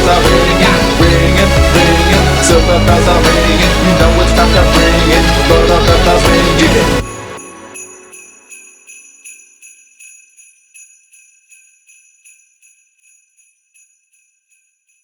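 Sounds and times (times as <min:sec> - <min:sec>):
jingle bells shaken: 0:00.0 - 0:15.0.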